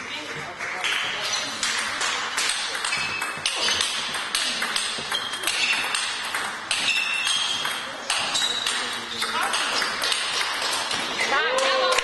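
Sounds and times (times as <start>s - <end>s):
ping pong ball clicking: 0.8s - 11.8s.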